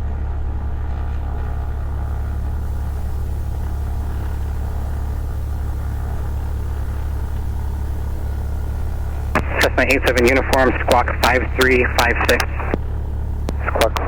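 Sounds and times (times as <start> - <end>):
light aircraft engine droning: 0.0 - 14.0.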